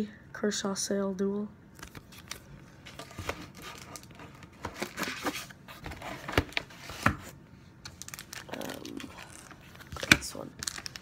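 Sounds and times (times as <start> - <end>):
plastic sleeves rustling and crinkling: 1.8 - 11.0.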